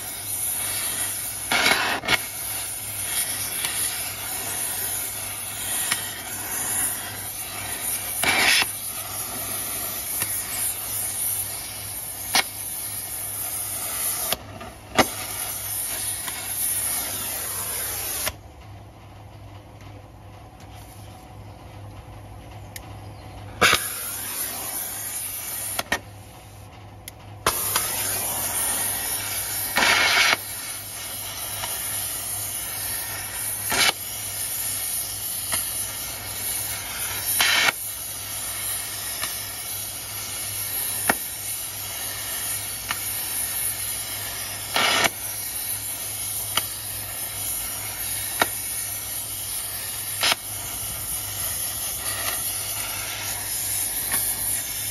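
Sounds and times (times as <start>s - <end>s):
gas torch flame hissing: 0.0s - 18.4s, 23.6s - 26.7s, 27.4s - 54.9s.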